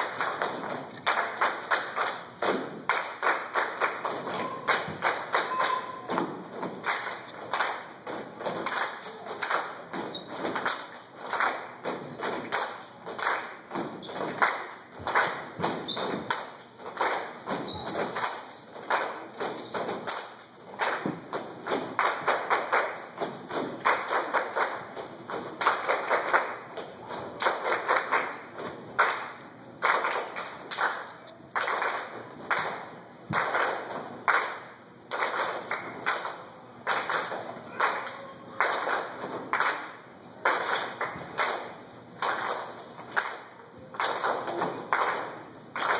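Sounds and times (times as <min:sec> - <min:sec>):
hand claps: 0:00.0 - 0:45.9.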